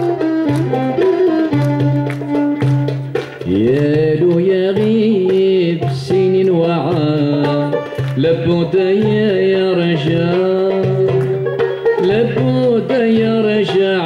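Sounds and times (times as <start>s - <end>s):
violin melody: 0.0s - 4.4s, 6.2s - 14.0s
hand drum strokes: 0.0s - 14.0s
plucked strings: 0.0s - 14.0s.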